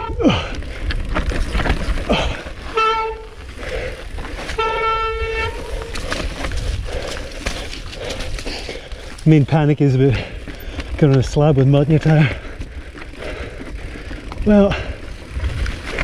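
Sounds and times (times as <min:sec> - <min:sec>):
bike knocks and rattles: 0:00.0 - 0:16.0
tyres on rock: 0:00.0 - 0:16.0
wind rumble: 0:00.0 - 0:16.0.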